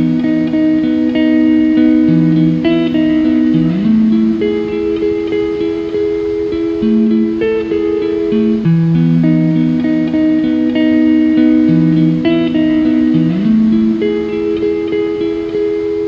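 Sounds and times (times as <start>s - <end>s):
plucked and strummed guitar music: 0.0s - 16.0s.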